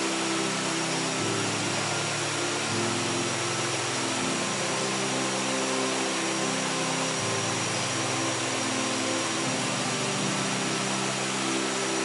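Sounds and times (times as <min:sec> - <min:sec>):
small waterfall pouring into pool: 0:00.0 - 0:12.0.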